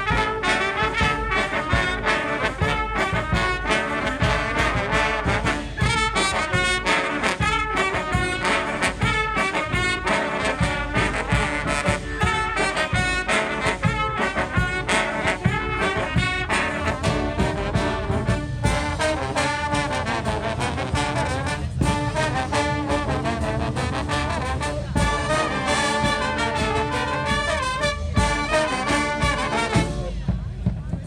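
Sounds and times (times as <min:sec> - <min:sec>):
brass band playing: 0:00.0 - 0:30.7
drum beat: 0:00.0 - 0:31.0.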